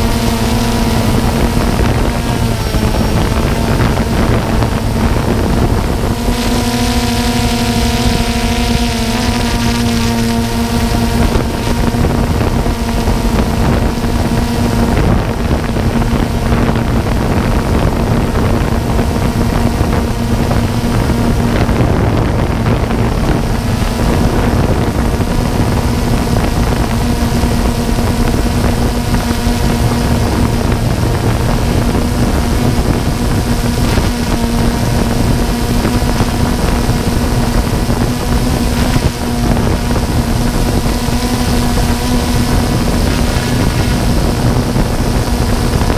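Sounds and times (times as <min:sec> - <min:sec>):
drone propellers humming: 0:00.0 - 0:45.9
wind buffeting microphone: 0:00.0 - 0:45.9.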